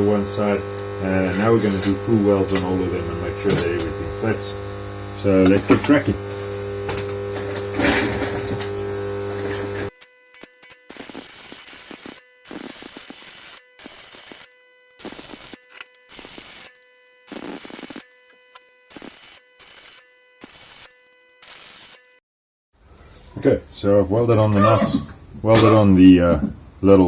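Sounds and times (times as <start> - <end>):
arc welding bursts: 0.0 - 22.2
loud steady electric hum: 0.0 - 22.2.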